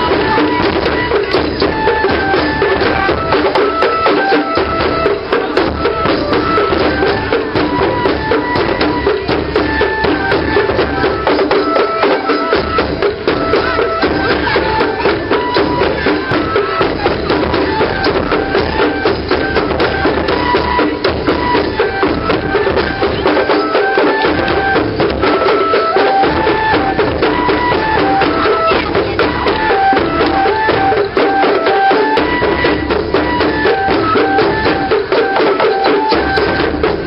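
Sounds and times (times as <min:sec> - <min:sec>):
bamboo flute melody: 0:00.0 - 0:37.0
taiko drumming: 0:00.0 - 0:37.0.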